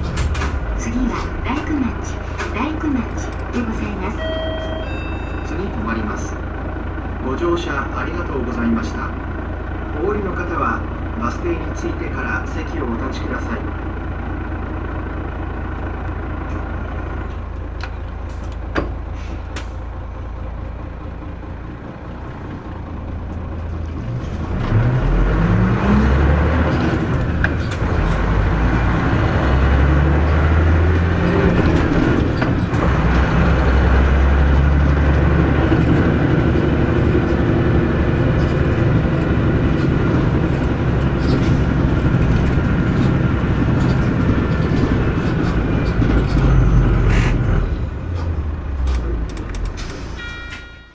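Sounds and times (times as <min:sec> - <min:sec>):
bus engine running: 0:00.0 - 0:50.9.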